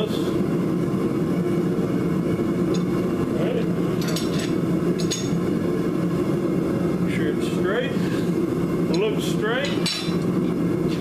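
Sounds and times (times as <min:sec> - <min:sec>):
low machine drone: 0:00.0 - 0:11.0.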